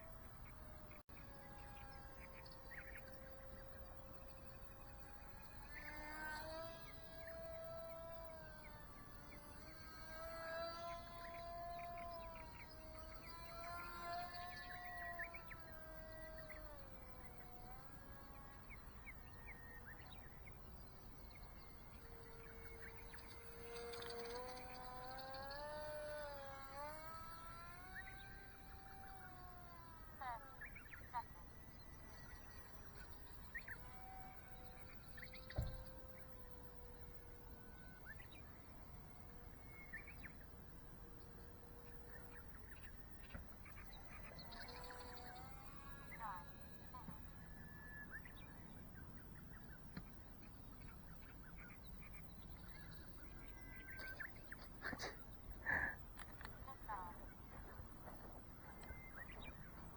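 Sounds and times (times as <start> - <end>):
faint bird chirps: 0.0 - 59.9
rc plane motor whining: 0.0 - 59.9.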